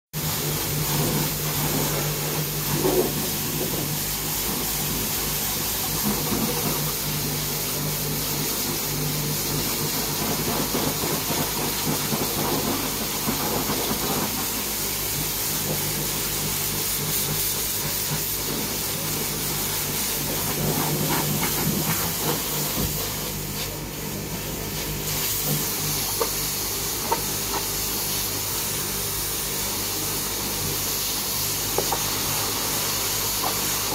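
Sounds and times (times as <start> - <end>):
pressure washer spraying water: 0.2 - 33.9
pump motor humming: 0.2 - 33.9.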